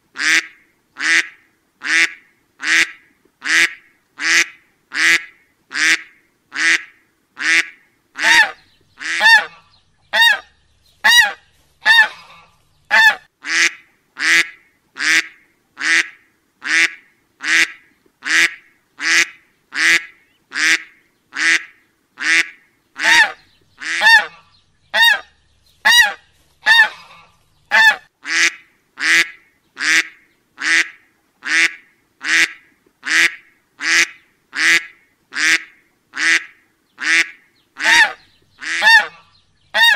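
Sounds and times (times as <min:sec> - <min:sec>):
duck quacking: 0:00.2 - 0:39.9.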